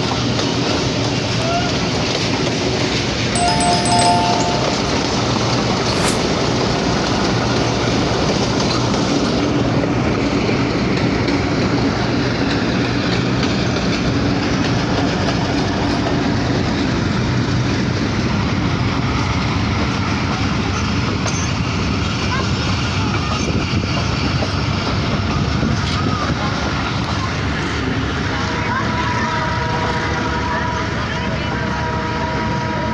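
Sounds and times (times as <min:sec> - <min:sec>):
train wheels rumbling on rails: 0:00.0 - 0:03.3, 0:05.7 - 0:32.9.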